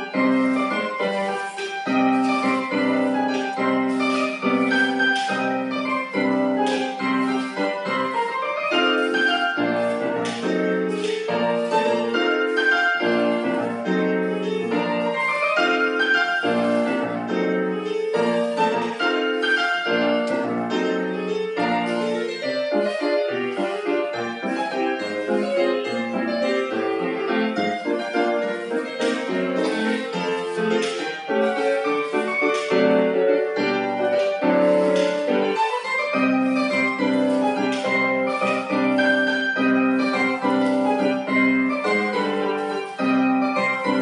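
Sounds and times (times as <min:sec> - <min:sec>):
solo piano with regular beat: 0:00.0 - 0:44.0.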